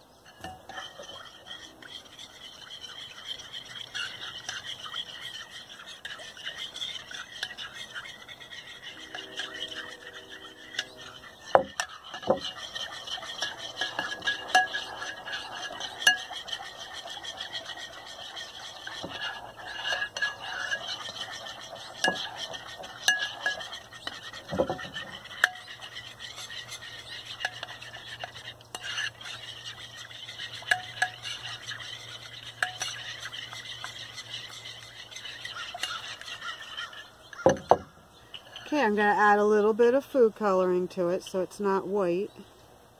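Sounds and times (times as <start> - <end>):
spoon clinking and scraping bowl: 0.2 - 39.7
metal spoon stirring slime: 0.2 - 40.6.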